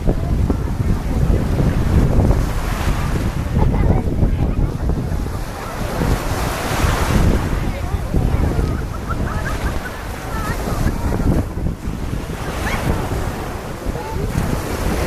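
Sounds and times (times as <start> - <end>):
small waves washing onto shore: 0.0 - 15.0
wind buffeting microphone: 0.0 - 15.0.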